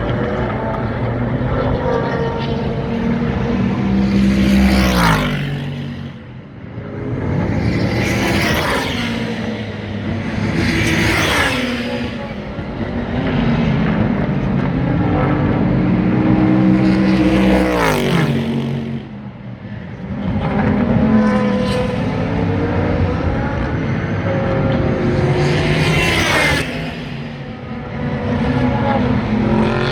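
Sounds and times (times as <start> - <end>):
race cars passing at speed: 0.0 - 29.9.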